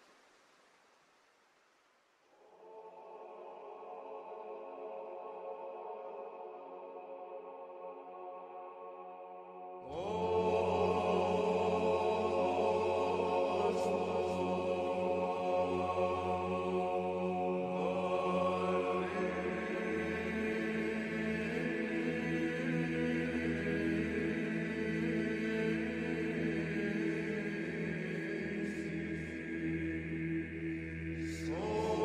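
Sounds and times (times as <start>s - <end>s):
slow vocal chant: 2.3s - 32.0s
held vocal drone: 2.4s - 32.0s.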